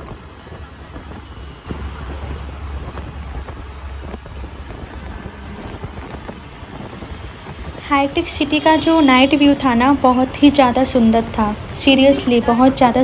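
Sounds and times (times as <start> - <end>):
auto-rickshaw engine: 0.0 - 13.0
road noise: 0.0 - 13.0
wind rushing past microphone: 0.0 - 13.0.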